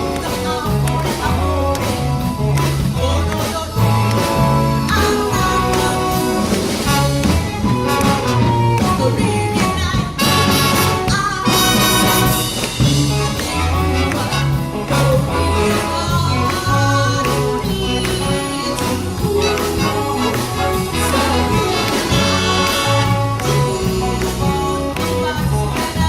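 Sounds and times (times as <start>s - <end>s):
big band playing swing jazz: 0.0s - 26.0s.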